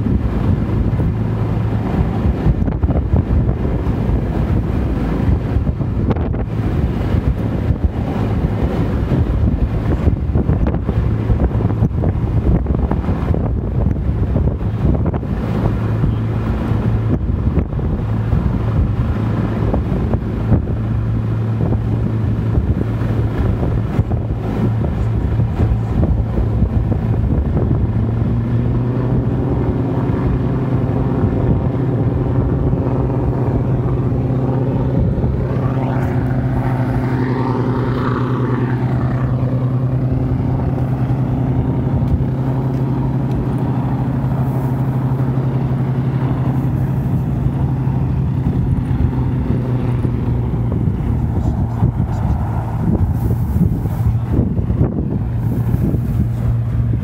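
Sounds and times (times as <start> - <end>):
aircraft engines running: 0.0 - 57.0
whine: 0.0 - 57.0
wind buffeting microphone: 0.0 - 57.0.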